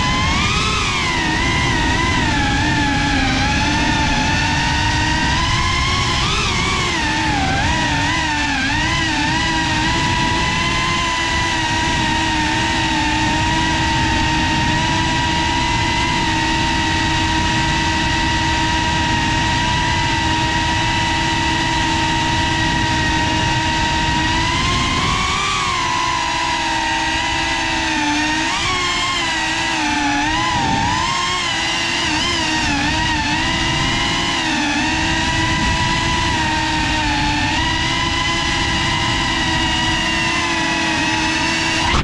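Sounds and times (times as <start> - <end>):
drone propellers whining: 0.0 - 42.0.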